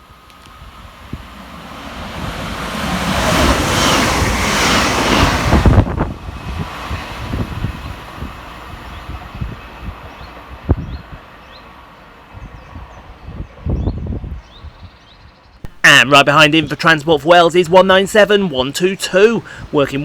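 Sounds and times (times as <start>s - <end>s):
train passing fast: 0.0s - 20.0s
wind buffeting microphone: 0.0s - 20.0s.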